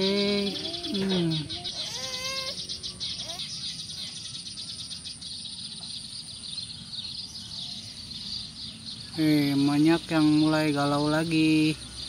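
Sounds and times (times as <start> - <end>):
sparrows chirping rapidly: 0.0 - 12.0.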